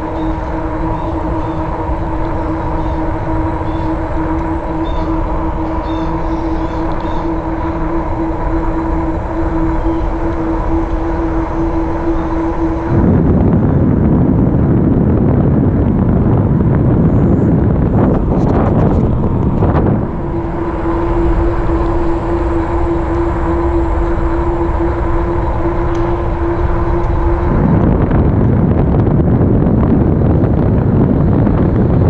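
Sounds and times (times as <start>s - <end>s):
low rumble of bike ride: 0.0s - 32.0s
steady one-note hum from bike: 0.0s - 32.0s
wind rushing over microphone: 0.0s - 32.0s.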